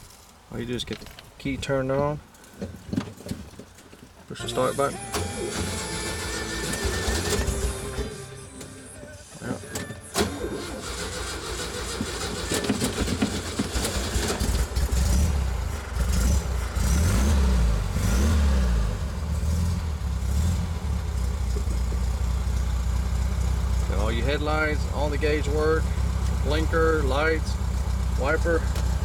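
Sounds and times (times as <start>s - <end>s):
engine cranking and revving: 4.4s - 29.0s.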